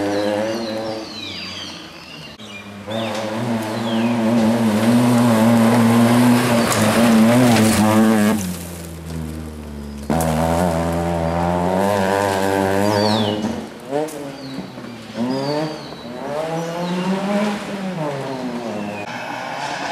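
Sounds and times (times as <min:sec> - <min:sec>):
rally car engines revving: 0:00.0 - 0:19.9.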